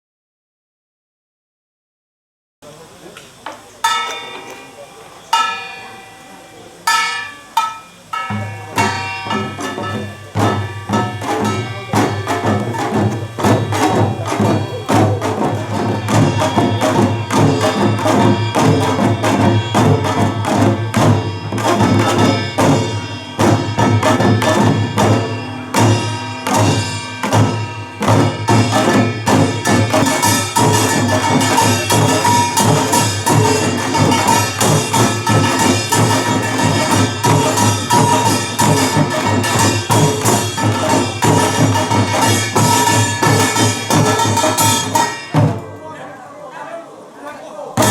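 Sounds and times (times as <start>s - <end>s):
drum and gong percussion music: 3.3s - 46.2s.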